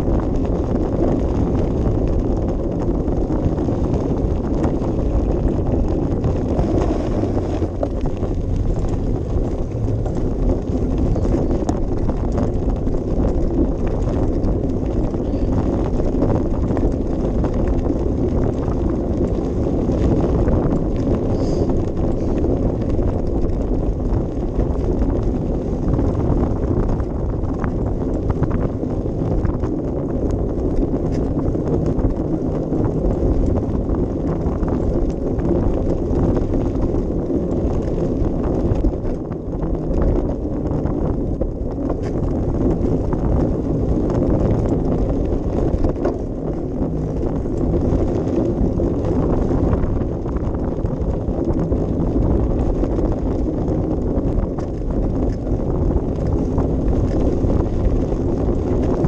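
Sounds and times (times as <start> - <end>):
bicycle rattling on gravel path: 0.0 - 59.0
wind buffeting microphone: 0.0 - 59.0.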